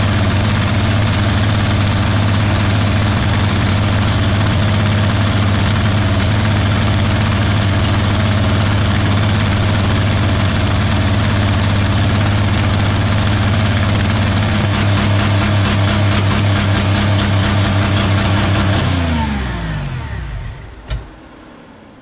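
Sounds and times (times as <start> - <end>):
car engine running loud: 0.0 - 22.0.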